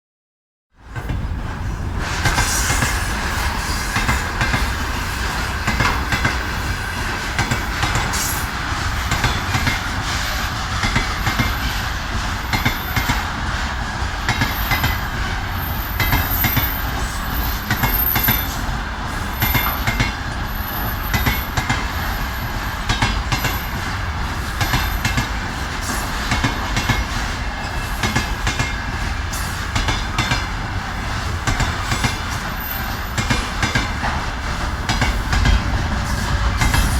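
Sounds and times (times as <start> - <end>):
train wheels clattering over rails: 0.8 - 36.9.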